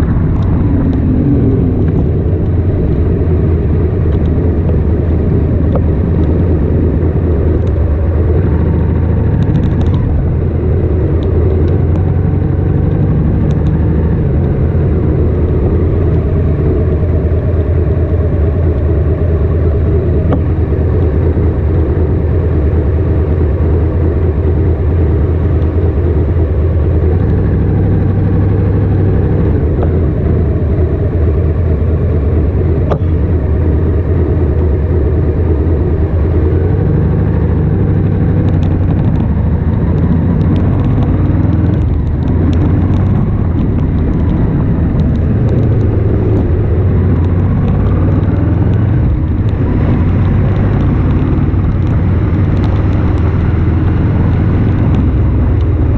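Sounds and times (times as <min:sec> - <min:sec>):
motorcycle engine at low revs: 0:00.0 - 0:55.9.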